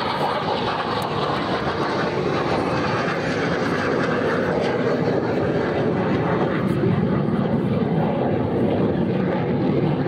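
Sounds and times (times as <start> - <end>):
jet flying low pass: 0.0 - 10.0.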